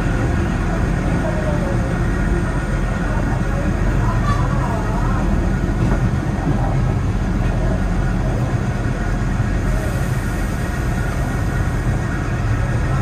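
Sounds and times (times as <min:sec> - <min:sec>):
railcar diesel engine rumbling: 0:00.0 - 0:13.0.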